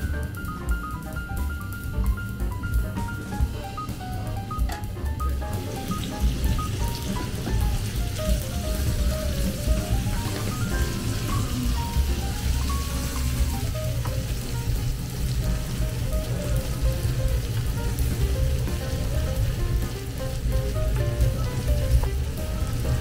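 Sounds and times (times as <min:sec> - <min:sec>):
food sizzling in frying pan: 0:00.0 - 0:23.0
light background music: 0:00.0 - 0:23.0.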